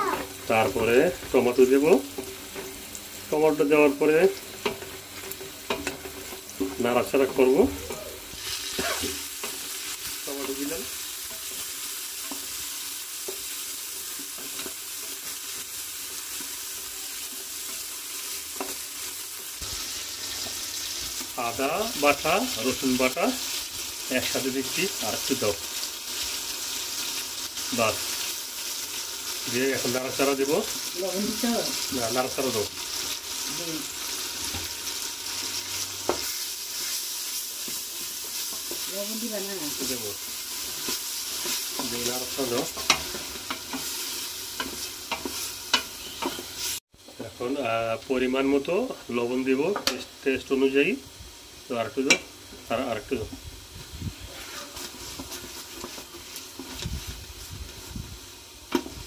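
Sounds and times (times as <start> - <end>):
vegetables sizzling in oil: 0.0 - 59.0.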